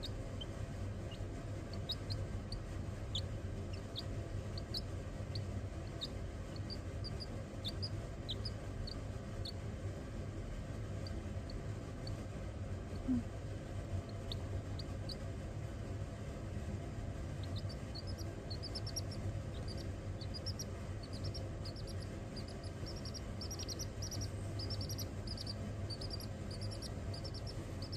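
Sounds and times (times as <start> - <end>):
baby chick peeping: 0.0 - 27.9
steady low hum: 0.0 - 27.9.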